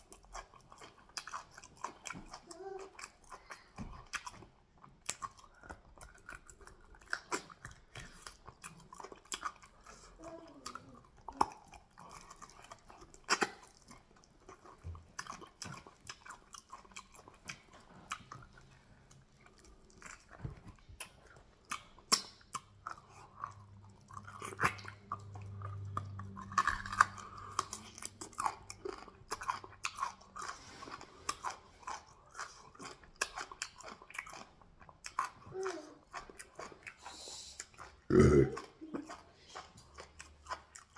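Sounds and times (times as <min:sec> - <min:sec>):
wet chewing: 0:00.0 - 0:40.9.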